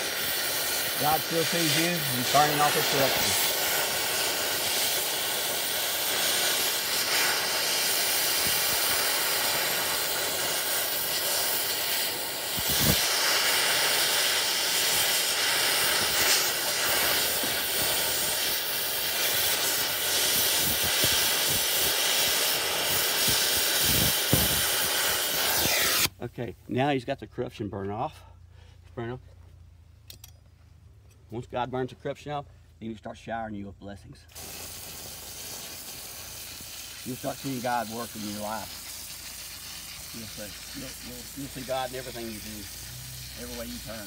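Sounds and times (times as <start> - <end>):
gas torch flame hissing: 0.0 - 26.2, 34.3 - 44.0.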